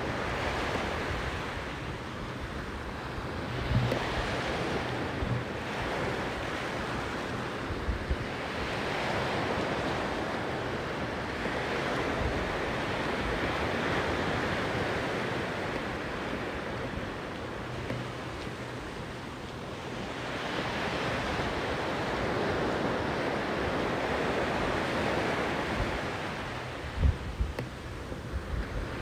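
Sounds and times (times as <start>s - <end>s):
sea waves washing onto beach: 0.0s - 29.0s
wind buffets on microphone: 0.0s - 29.0s.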